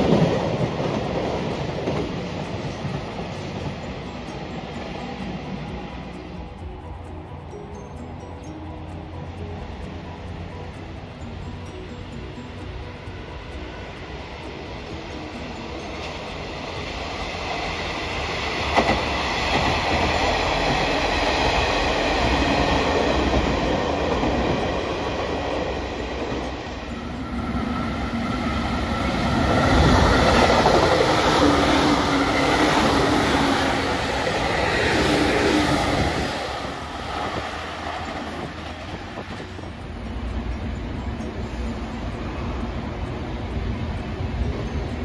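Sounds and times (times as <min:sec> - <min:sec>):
train wheels clattering: 0:00.0 - 0:07.0, 0:15.7 - 0:45.0
steady whine: 0:00.0 - 0:45.0.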